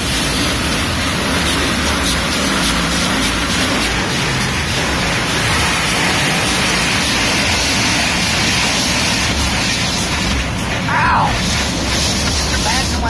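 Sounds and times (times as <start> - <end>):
brushes scrubbing car: 0.0 - 13.0
water spray rushing: 0.0 - 13.0.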